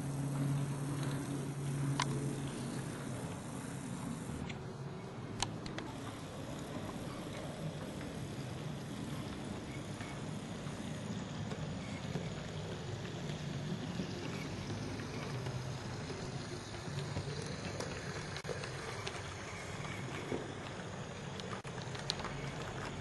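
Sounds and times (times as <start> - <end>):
model train motor hum: 0.0 - 23.0.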